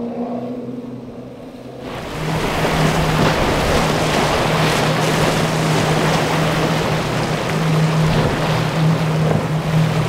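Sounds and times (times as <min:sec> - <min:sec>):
outboard engine drone: 0:00.0 - 0:10.0.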